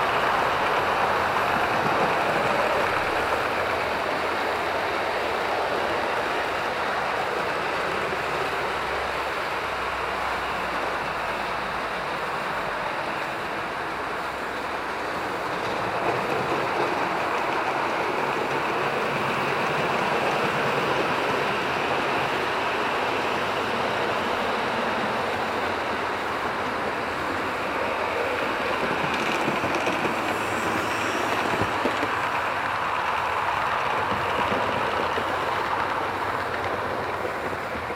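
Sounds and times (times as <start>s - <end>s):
model train wheels and motors whirring: 0.0s - 37.9s.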